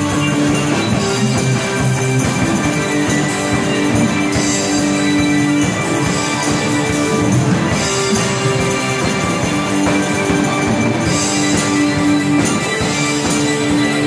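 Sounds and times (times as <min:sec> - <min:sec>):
electric guitar through amplifier: 0:00.0 - 0:14.0.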